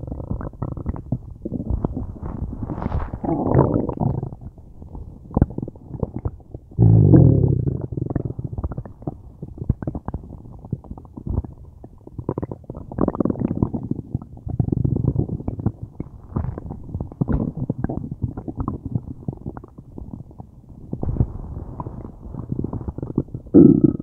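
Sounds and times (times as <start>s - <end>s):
stomach gurgling and rumbling: 0.0s - 24.0s.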